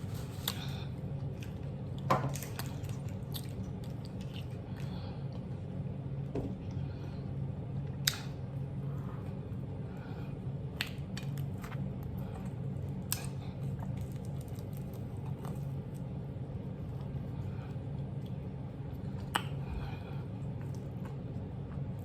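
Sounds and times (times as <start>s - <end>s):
air conditioner humming: 0.0s - 22.0s
soft chewing: 0.0s - 22.0s.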